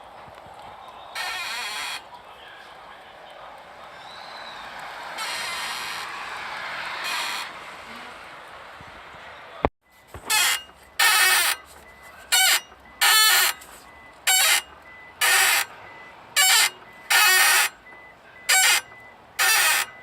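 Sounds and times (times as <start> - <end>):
steering squeaking: 0.2 - 2.6, 3.5 - 20.0.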